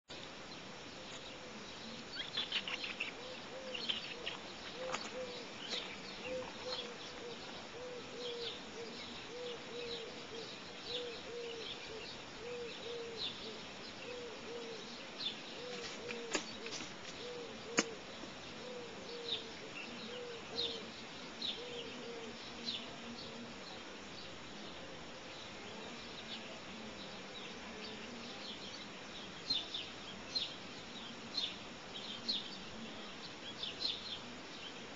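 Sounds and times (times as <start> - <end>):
small birds chirping: 0.1 - 34.9
low repeated bird call: 1.0 - 34.8.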